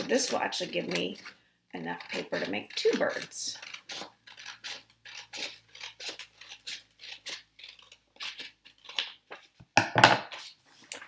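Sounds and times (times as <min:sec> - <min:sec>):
scissors snipping paper: 0:00.0 - 0:09.4.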